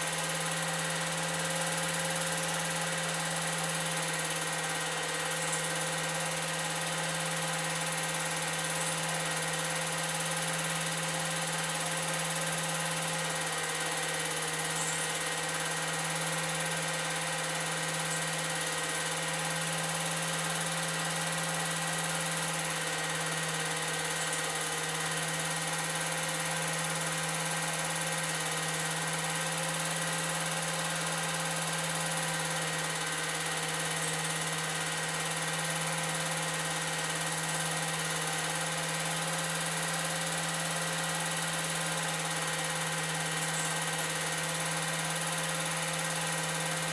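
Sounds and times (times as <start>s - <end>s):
film projector motor humming: 0.0s - 46.9s.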